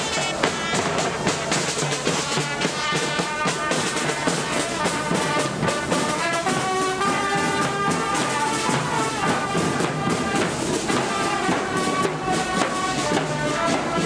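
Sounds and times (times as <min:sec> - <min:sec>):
fanfare trumpets playing a tune: 0:00.0 - 0:14.0.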